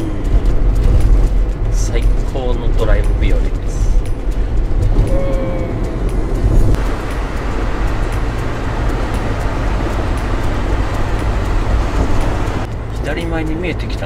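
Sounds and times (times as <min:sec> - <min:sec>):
van road noise: 0:00.0 - 0:14.0.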